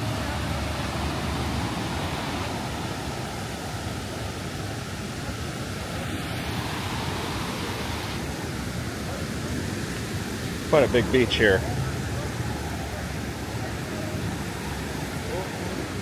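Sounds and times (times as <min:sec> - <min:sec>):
ocean surf: 0:00.0 - 0:16.0
wind: 0:00.0 - 0:16.0.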